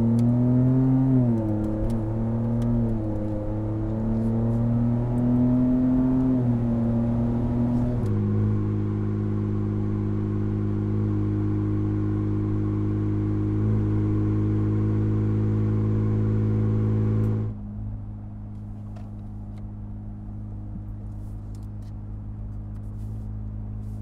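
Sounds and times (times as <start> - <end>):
muffled exhaust inside cab: 0.0 - 24.0
truck exhaust while driving: 0.0 - 24.0.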